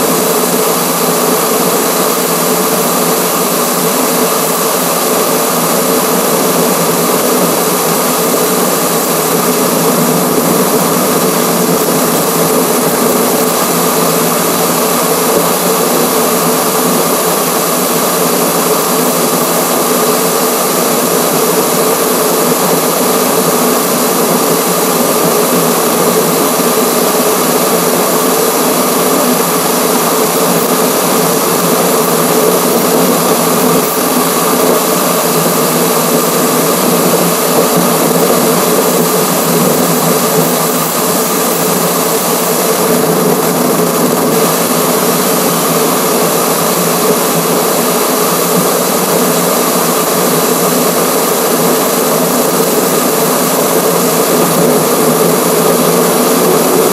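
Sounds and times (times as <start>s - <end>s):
high even whine: 0.0s - 56.9s.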